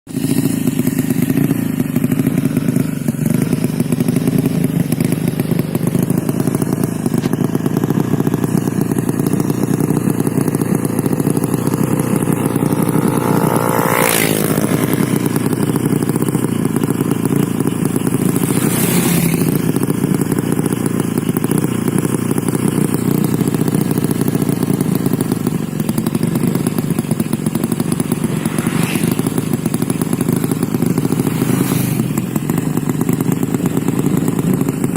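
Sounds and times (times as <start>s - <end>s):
motorcycle engine idling: 0.1s - 34.9s
motorcycle throttle blips: 0.1s - 34.9s.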